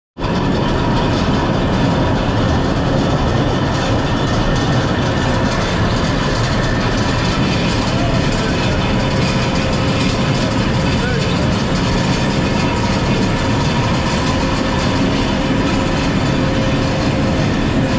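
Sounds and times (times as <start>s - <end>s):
machinery running: 0.2s - 17.9s.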